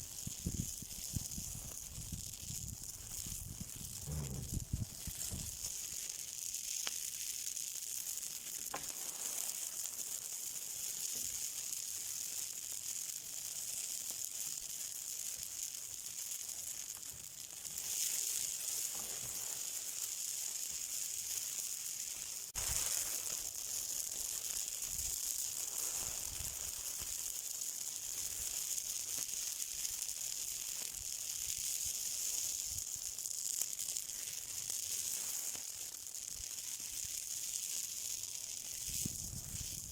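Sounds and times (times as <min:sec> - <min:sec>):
high hiss of burning: 0:00.0 - 0:39.9
sharp crackles and pops: 0:00.0 - 0:39.9.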